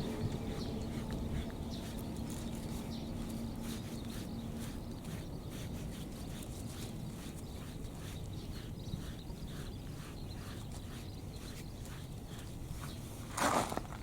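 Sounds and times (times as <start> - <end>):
brush swishing through dog fur: 0.0 - 13.4.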